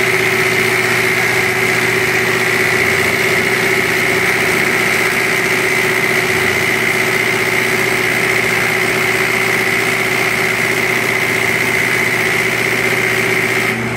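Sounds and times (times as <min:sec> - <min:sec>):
mechanical drone: 0:00.0 - 0:13.9
steady high whine: 0:00.0 - 0:13.9.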